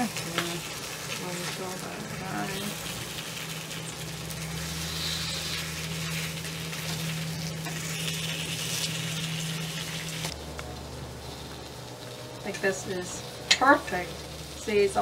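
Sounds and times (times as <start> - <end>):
low hum: 0.0 - 15.0
pancakes sizzling in pan: 0.0 - 15.0.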